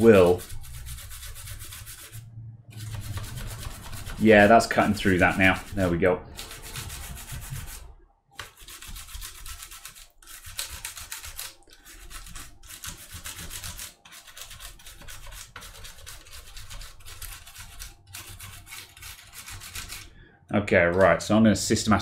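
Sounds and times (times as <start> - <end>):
toothbrush scrubbing: 0.0 - 20.1.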